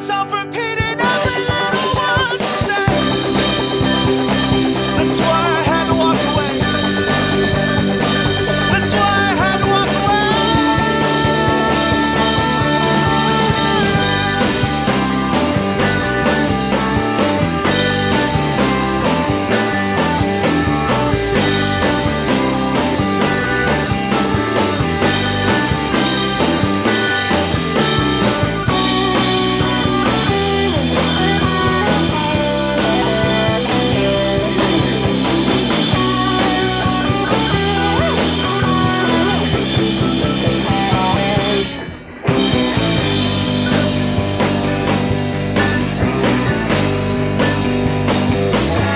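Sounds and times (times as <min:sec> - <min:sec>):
drum kit with cymbals: 0:00.0 - 0:48.9
electric guitar: 0:00.0 - 0:48.9
rock band playing: 0:00.0 - 0:48.9.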